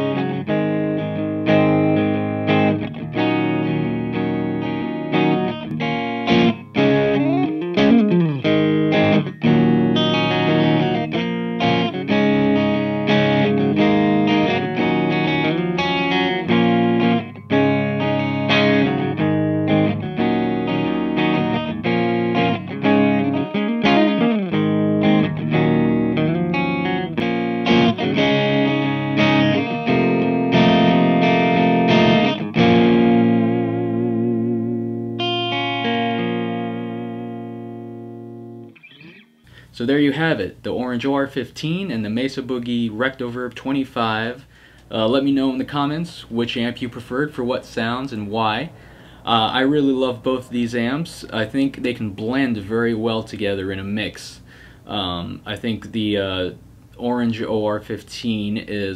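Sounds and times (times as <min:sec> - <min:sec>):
electric guitar with string bends: 0:00.0 - 0:57.5.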